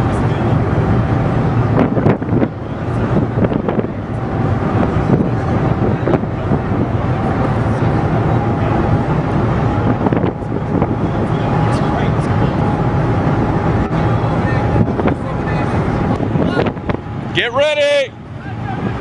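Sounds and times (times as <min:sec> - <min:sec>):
steady low rumble: 0:00.0 - 0:19.0
wind buffeting the microphone: 0:00.0 - 0:19.0.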